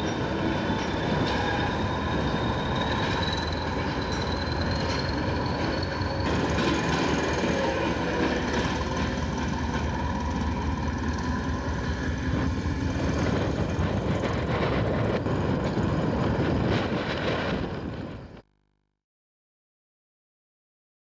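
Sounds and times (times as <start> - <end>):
train rumbling on rails: 0.0 - 18.4.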